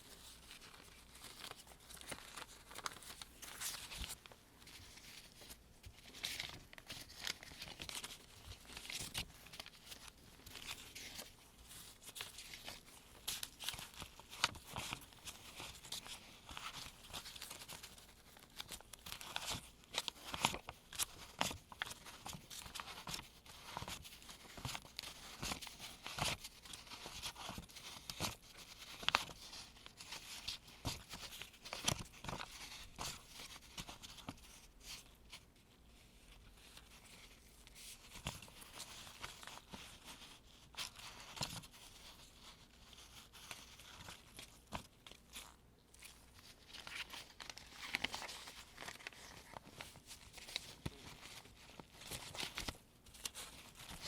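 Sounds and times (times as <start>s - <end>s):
paper bills rustling: 0.0s - 54.0s.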